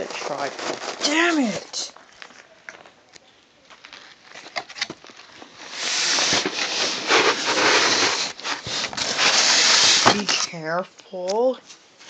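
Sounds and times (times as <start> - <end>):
packing material rustling: 0.0 - 10.6.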